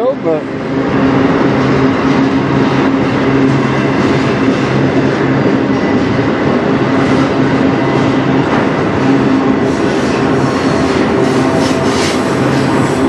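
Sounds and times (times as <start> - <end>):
freight train wheels rumbling: 0.0 - 13.0
low hum: 0.4 - 13.0.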